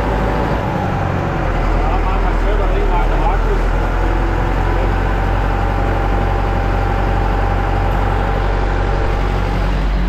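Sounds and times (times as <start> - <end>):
tractor engine hum: 0.0 - 10.0.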